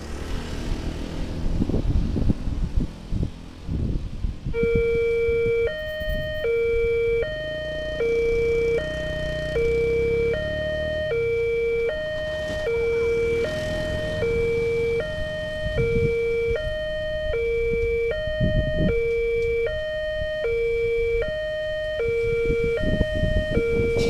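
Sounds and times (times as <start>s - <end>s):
level crossing two-tone alarm: 4.6s - 24.0s.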